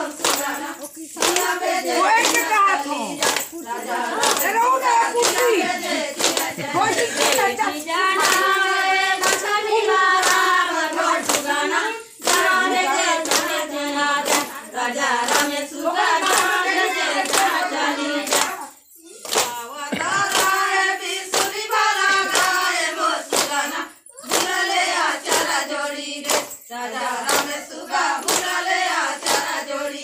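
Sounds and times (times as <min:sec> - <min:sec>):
rhythmic hand clapping: 0:00.0 - 0:30.0
women singing folk song: 0:00.0 - 0:30.0.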